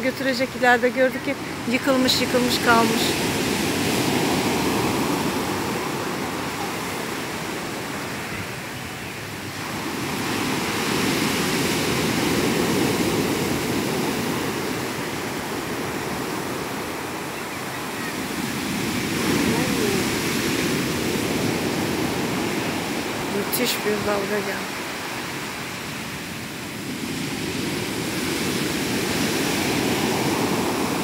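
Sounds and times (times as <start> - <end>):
heavy surf breaking: 0.0 - 31.0.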